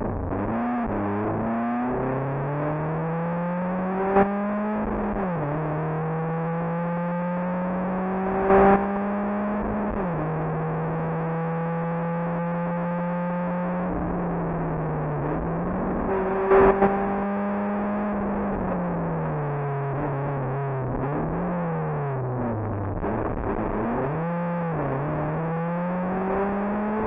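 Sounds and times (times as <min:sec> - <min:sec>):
rally car engine accelerating: 0:00.0 - 0:27.0.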